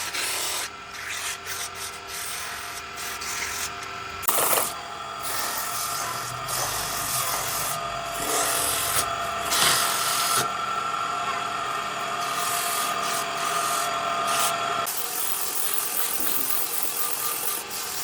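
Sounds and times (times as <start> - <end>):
electric sander on wood: 0.0 - 18.0.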